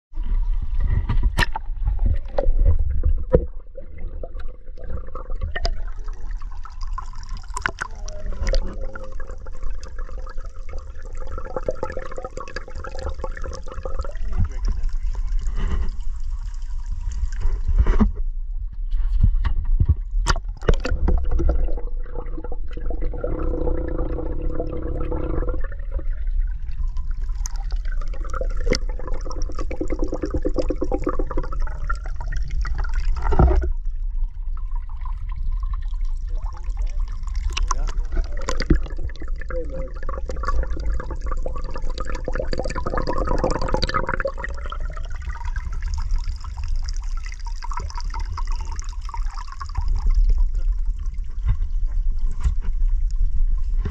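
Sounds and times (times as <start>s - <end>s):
water running and gurgling: 0.8s - 18.0s, 20.2s - 53.9s.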